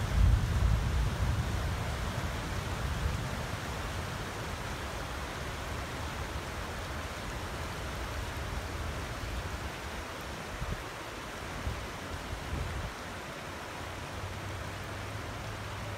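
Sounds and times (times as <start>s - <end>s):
low rumble of water: 0.0s - 13.1s
floodwater rushing: 0.0s - 15.9s.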